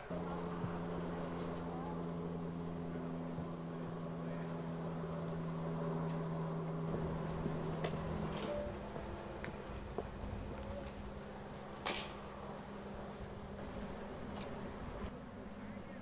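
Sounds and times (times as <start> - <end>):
locomotive equipment humming: 0.0 - 16.0.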